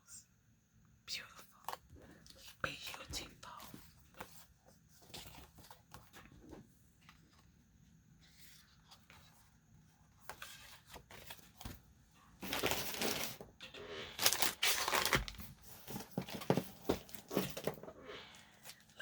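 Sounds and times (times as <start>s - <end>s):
paper rustling and crinkling: 1.6s - 7.6s, 8.2s - 17.9s.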